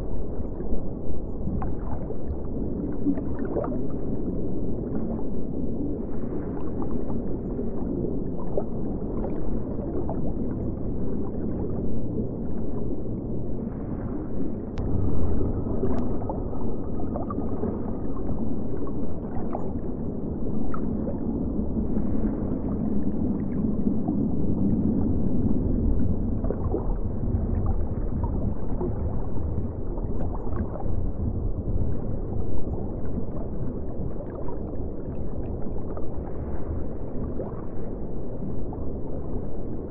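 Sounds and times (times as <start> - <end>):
underwater water rumble: 0.0 - 39.9.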